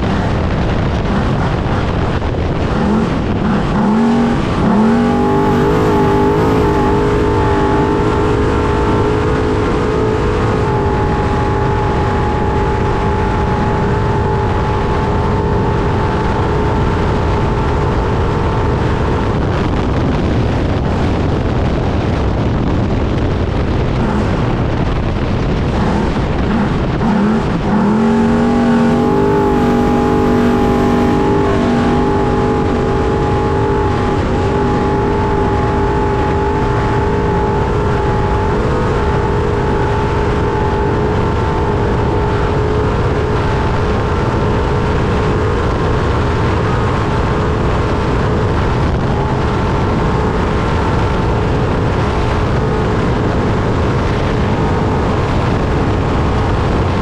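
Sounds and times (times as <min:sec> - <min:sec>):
rushing and rattling noise: 0:00.0 - 0:57.0
truck engine at high revs: 0:00.0 - 0:57.0.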